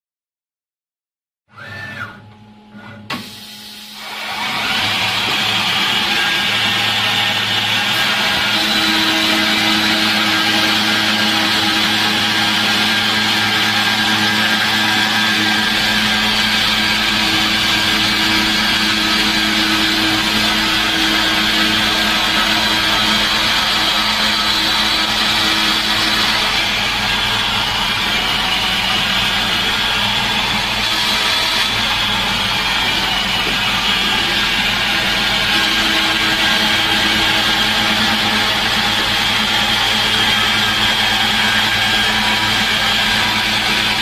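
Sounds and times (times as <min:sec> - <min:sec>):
milling machine spindle whine: 0:01.6 - 0:44.0.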